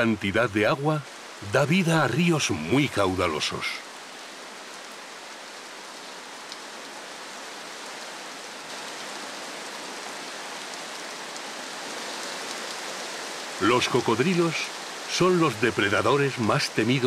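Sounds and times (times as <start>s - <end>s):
rain falling on river: 0.0s - 17.0s.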